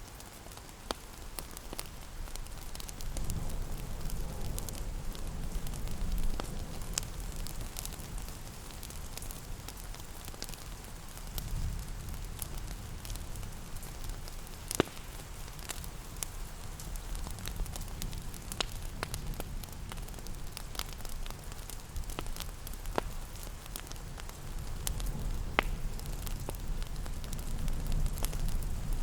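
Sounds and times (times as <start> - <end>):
gentle rain hissing: 0.0 - 29.0
wood fire crackling: 0.0 - 29.0.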